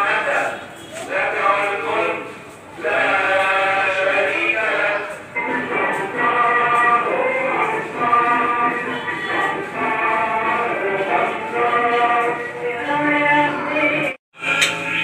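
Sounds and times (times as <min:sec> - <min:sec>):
men chanting from a television: 0:00.0 - 0:15.0.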